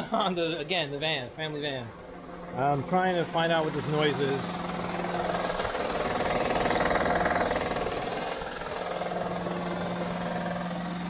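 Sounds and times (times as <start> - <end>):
car engine running: 0.0 - 11.0
engine knocking: 2.0 - 11.0.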